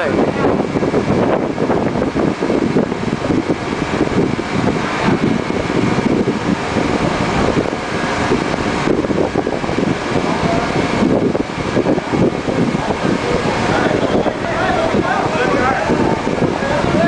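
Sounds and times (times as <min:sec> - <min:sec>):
faint steady whine: 0:00.0 - 0:17.0
machinery drone: 0:00.0 - 0:17.0
wind buffeting microphone: 0:00.0 - 0:17.0.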